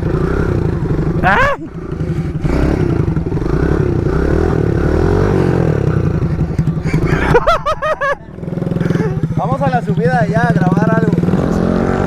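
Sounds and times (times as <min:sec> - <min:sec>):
mini bike engine revving: 0:00.0 - 0:12.0.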